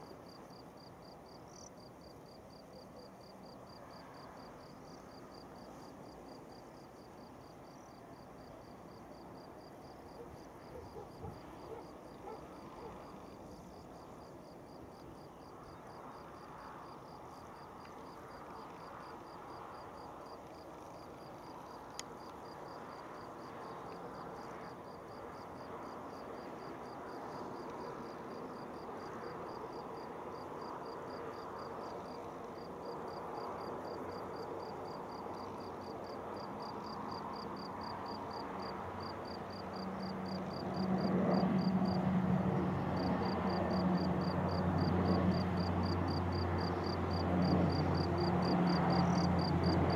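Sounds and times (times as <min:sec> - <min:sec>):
insects chirping: 0:00.3 - 0:42.0, 0:42.6 - 0:49.9.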